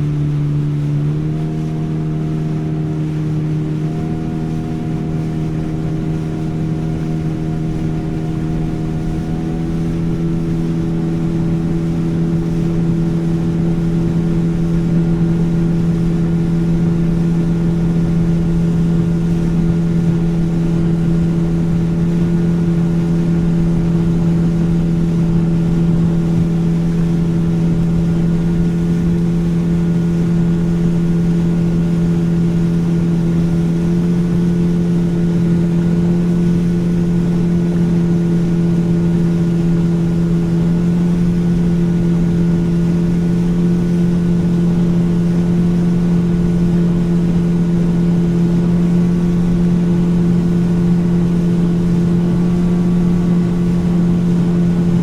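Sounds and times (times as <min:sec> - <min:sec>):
motorboat engine humming: 0:00.0 - 0:55.0
water rushing along hull: 0:00.0 - 0:55.0.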